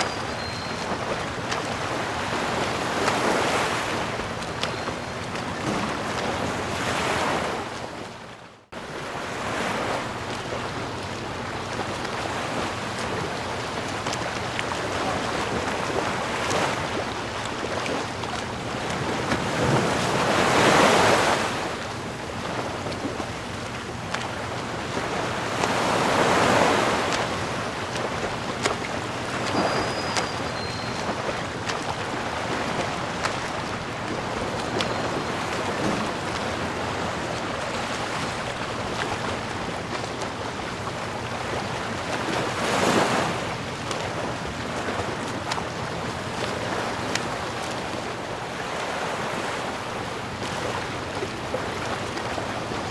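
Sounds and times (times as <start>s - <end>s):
sea waves washing onto shore: 0.0s - 52.9s.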